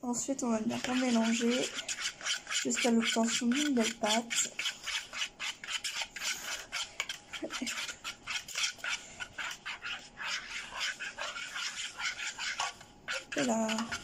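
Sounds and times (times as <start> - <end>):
spatula scraping batter in pitcher: 0.5 - 14.0.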